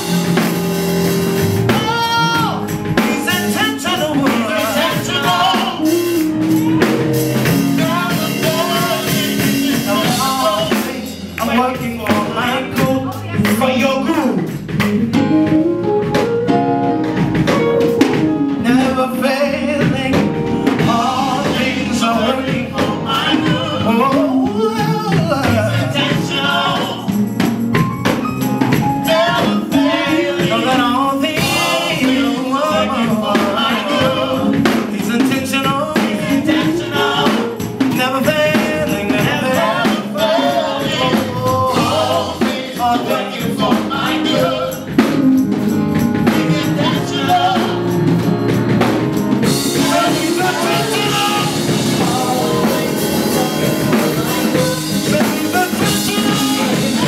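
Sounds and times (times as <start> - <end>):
band with steady percussion: 0.0 - 57.0
gospel singing: 0.0 - 57.0.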